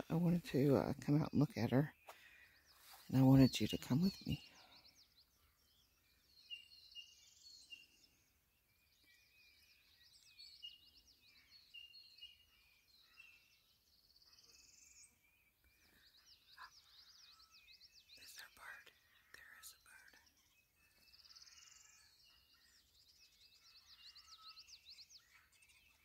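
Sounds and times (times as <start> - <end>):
high chirping calls: 0.0 - 8.0, 8.8 - 26.0.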